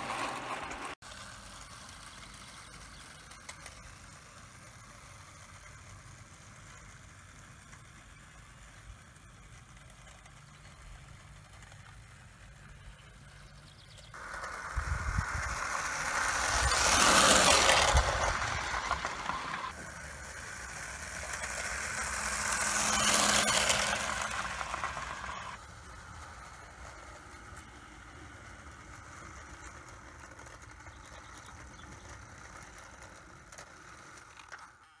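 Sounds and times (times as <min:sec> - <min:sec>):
toy train wheels rattling on rails: 0:00.0 - 0:35.0.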